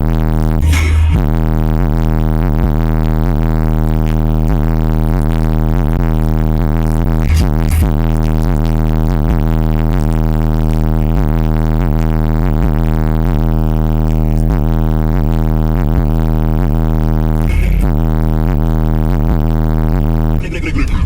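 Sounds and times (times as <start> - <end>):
distorted low bass tone: 0.0 - 21.0.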